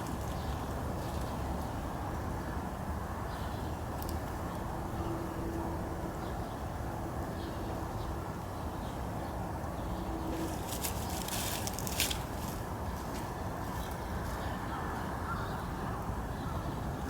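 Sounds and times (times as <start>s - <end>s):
low outdoor noise: 0.0s - 17.0s.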